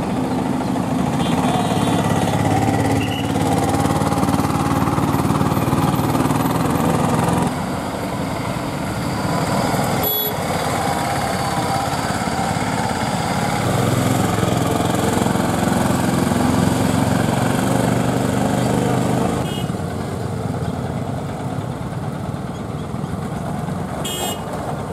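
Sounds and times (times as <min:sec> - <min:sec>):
passing vehicles: 0:00.0 - 0:24.9
small three-wheeler engines: 0:00.0 - 0:24.9.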